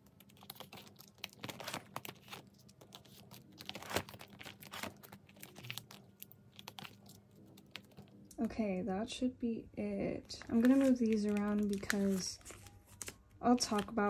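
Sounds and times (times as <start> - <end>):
plastic sleeves crinkling and clicking: 0.0 - 8.5, 10.2 - 14.0.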